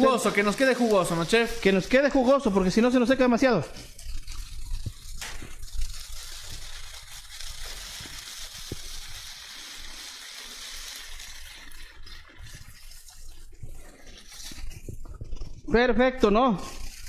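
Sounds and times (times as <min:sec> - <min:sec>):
food sizzling in a frying pan: 0:00.0 - 0:03.1, 0:03.9 - 0:14.6.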